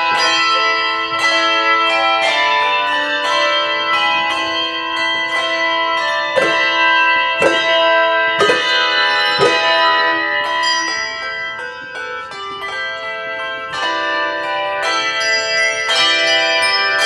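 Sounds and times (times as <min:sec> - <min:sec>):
handbell choir playing: 0:00.0 - 0:17.0
heavy bell strokes: 0:00.0 - 0:17.0.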